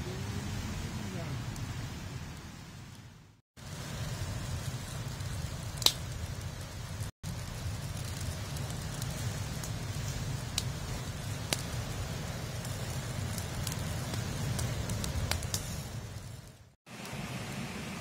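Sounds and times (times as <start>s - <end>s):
low fire rumble: 0.0s - 18.0s
wood fire crackling: 0.1s - 18.0s.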